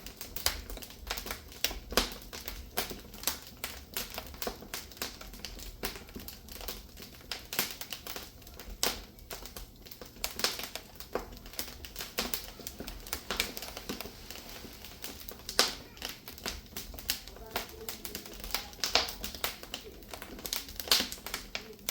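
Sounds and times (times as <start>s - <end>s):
firewood crackling: 0.0s - 21.9s.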